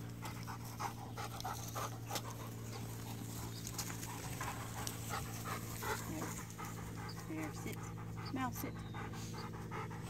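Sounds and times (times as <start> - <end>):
dog panting: 0.1 - 10.0.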